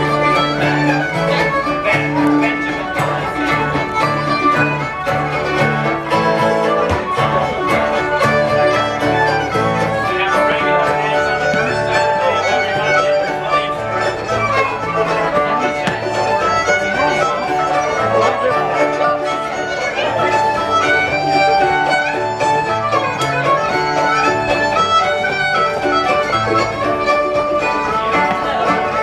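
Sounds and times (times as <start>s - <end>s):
fiddle dance tune with strings: 0.0s - 29.0s.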